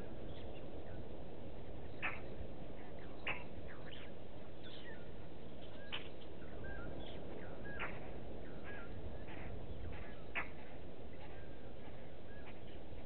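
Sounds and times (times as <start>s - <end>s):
sharp bird calls: 0.0s - 13.0s
soft bird chirps: 0.0s - 13.0s.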